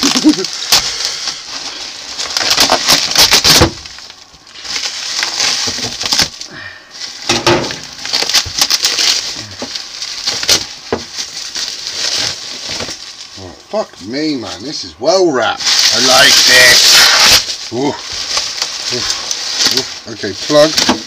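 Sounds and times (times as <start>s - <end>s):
bubble wrap crinkling and crackling: 0.0s - 14.8s, 15.4s - 21.0s.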